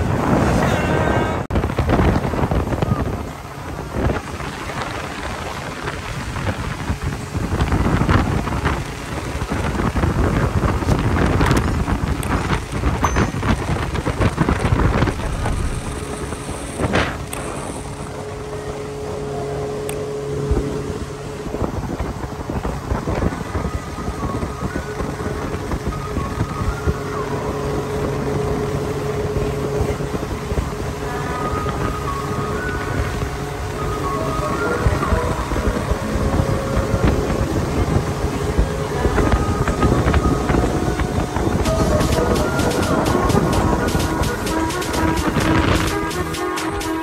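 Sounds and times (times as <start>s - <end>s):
motorboat engine running: 0.0s - 47.0s
water rushing past hull: 0.0s - 47.0s
wind buffeting microphone: 0.0s - 47.0s.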